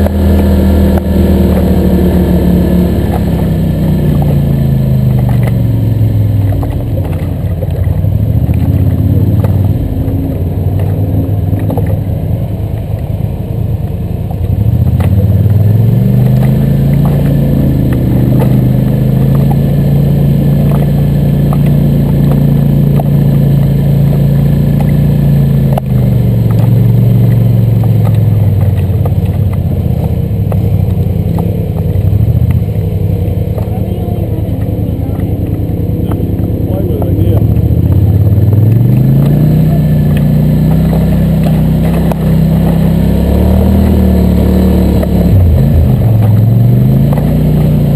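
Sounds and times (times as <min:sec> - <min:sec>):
atv engine running under load: 0:00.0 - 0:47.9.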